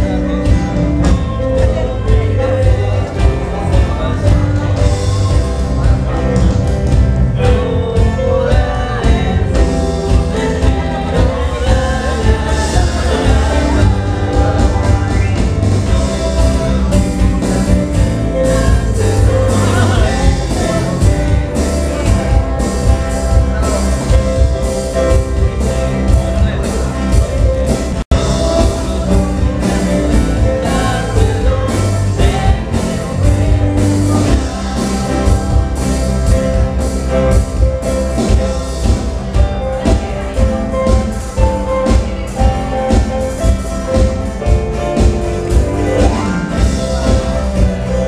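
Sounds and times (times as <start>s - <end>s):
church band playing: 0.0s - 48.0s
drum kit: 0.0s - 48.0s
voices singing: 0.0s - 48.0s.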